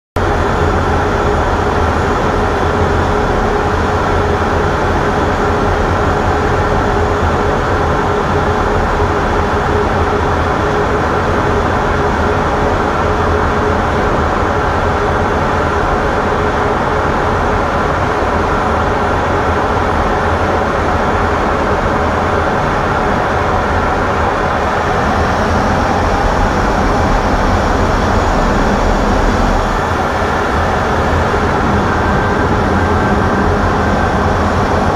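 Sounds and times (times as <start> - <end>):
jet engine and airflow noise: 0.2 - 34.9
steady hums and whines: 0.2 - 34.9.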